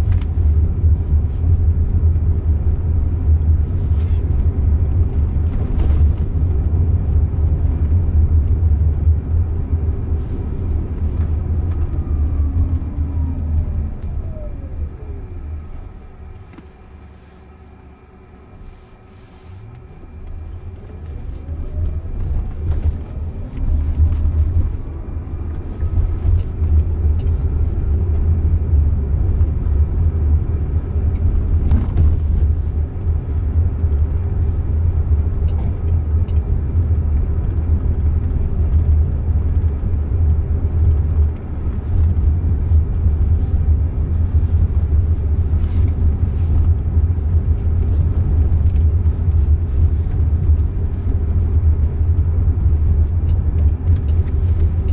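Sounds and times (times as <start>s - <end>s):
road and tyre rumble in car: 0.0s - 54.9s.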